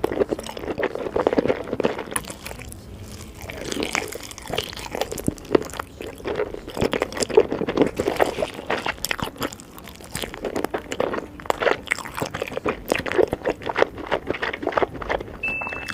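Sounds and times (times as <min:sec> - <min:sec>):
crunchy food chewing: 0:00.0 - 0:15.9.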